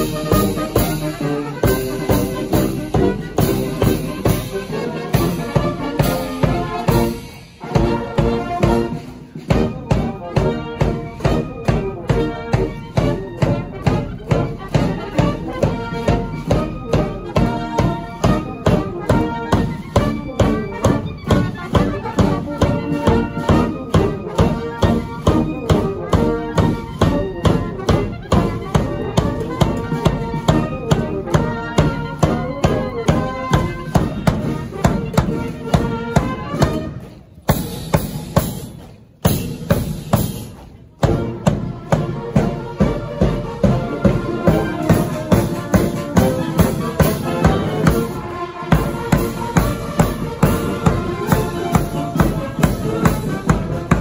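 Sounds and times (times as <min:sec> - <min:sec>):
brass band playing a march: 0:00.0 - 0:54.0.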